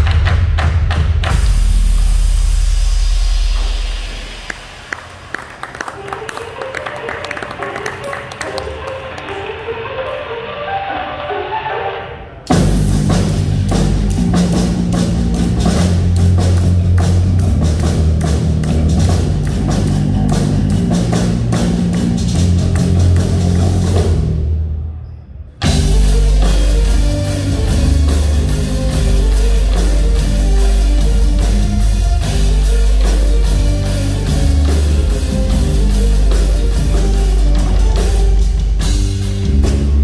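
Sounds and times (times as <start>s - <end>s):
rock band music: 0.0s - 24.8s, 25.6s - 40.0s.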